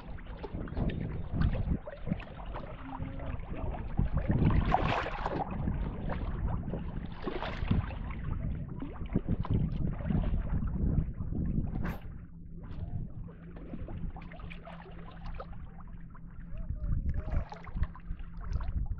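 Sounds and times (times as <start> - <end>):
wind buffeting microphone: 0.0 - 14.2, 16.5 - 18.9
water sounds: 0.0 - 18.9.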